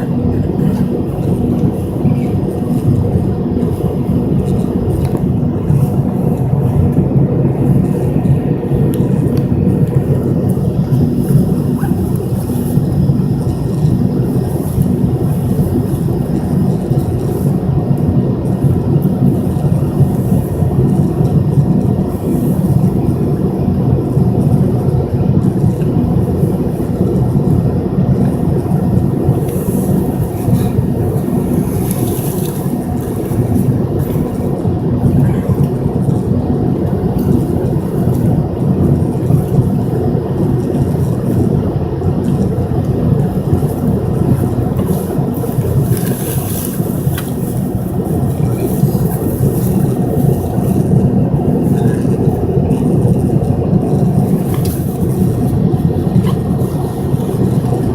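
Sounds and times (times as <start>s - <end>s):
airliner cabin rumble: 0.0s - 57.9s.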